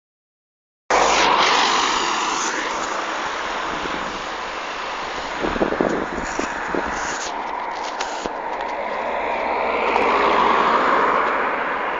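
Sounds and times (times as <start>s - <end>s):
steady road noise: 0.9s - 11.9s.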